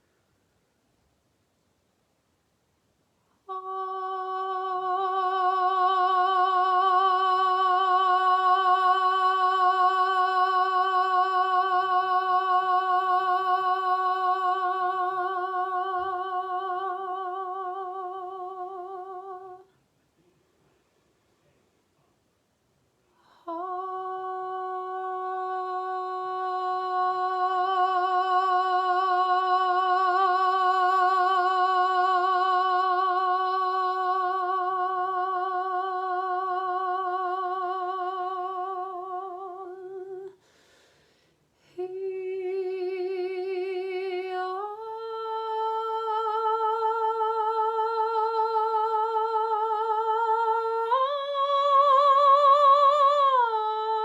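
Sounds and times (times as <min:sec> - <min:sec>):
woman singing long held note: 0:03.4 - 0:19.7, 0:23.2 - 0:40.5, 0:41.7 - 0:54.0.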